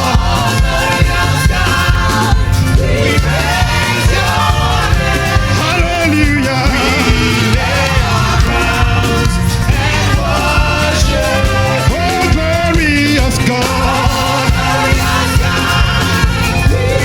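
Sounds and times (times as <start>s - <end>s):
drums: 0.0s - 17.0s
gospel band playing: 0.0s - 17.0s
voices singing melody: 0.0s - 17.0s.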